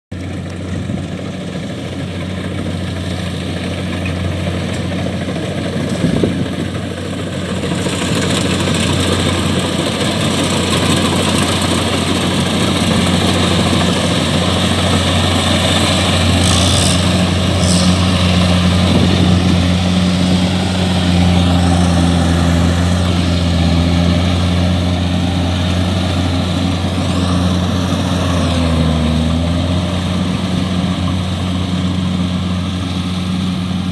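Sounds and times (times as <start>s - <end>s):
combine harvester droning: 0.1s - 33.9s.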